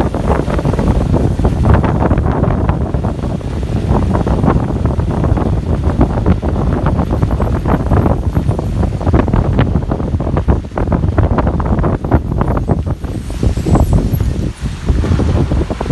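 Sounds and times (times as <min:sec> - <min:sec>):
bus engine rumble: 0:00.0 - 0:15.9
wind buffeting microphone: 0:00.0 - 0:15.9.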